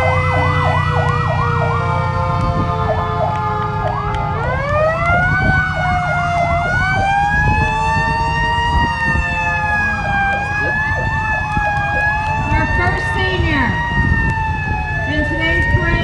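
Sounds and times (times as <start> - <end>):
low vehicle rumble: 0.0 - 16.0
siren wailing: 0.0 - 16.0
siren yelping: 0.0 - 16.0
steady siren tones: 0.0 - 16.0.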